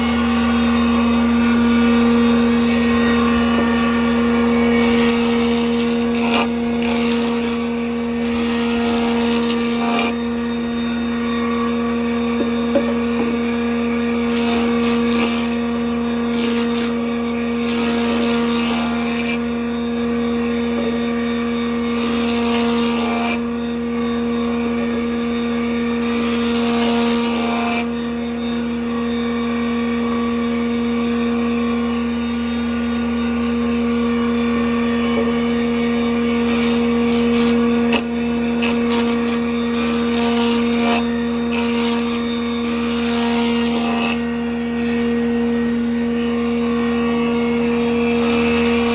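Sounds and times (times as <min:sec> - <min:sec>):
band saw cutting wood: 0:00.0 - 0:48.9.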